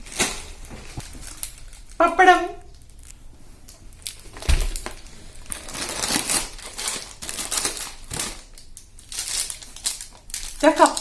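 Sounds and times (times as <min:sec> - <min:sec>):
food packaging crinkling: 0:00.0 - 0:11.0.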